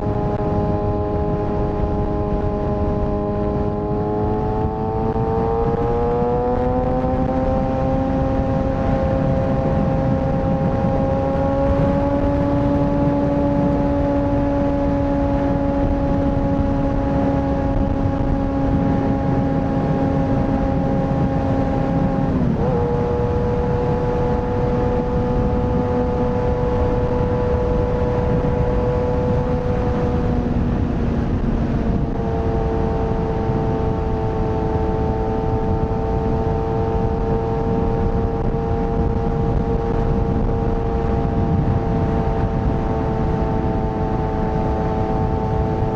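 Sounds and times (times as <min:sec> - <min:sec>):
motorcycle engine revving high: 0:00.0 - 0:45.9.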